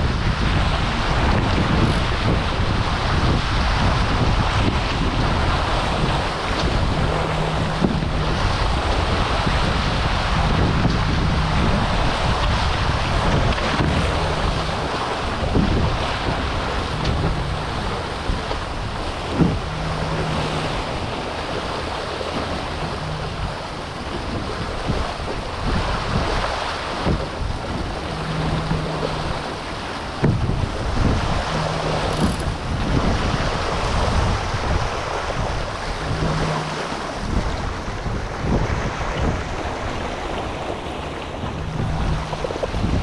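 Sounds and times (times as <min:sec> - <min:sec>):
water rushing along hulls: 0:00.0 - 0:43.0
wind buffeting microphone: 0:00.0 - 0:43.0.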